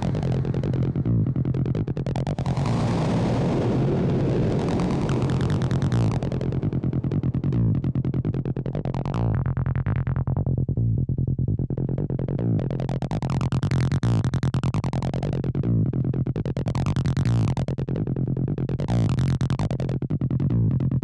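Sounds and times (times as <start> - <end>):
synthesizer bassline with filter sweep: 0.0 - 21.0.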